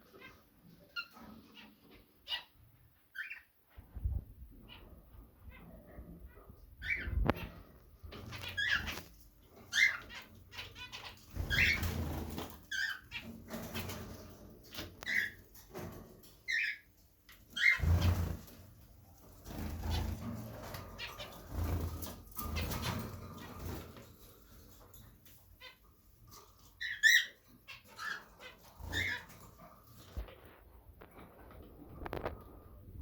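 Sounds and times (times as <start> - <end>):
caged birds chirping: 0.0 - 30.6.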